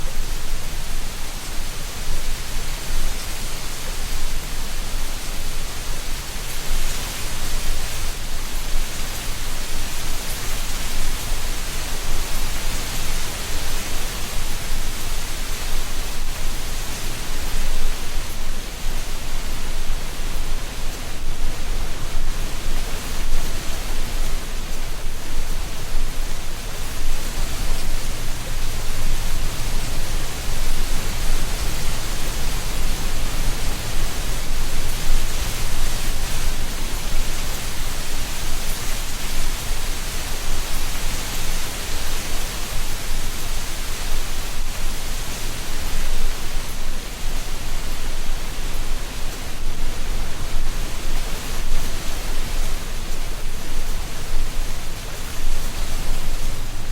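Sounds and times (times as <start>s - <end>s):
wind rustling dry leaves: 0.0s - 56.9s.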